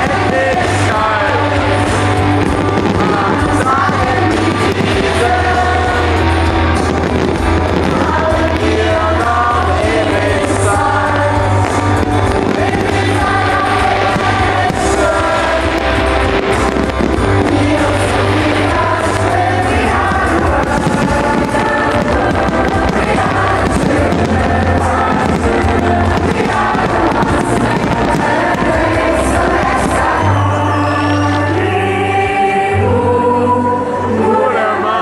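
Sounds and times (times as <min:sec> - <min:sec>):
person singing: 0:00.0 - 0:35.0.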